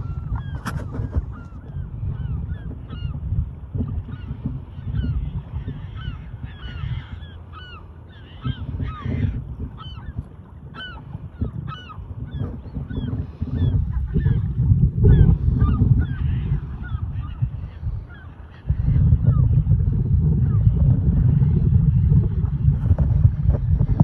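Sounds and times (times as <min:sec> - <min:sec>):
seabirds calling: 0:00.0 - 0:23.7
steady low rumble: 0:00.0 - 0:24.0.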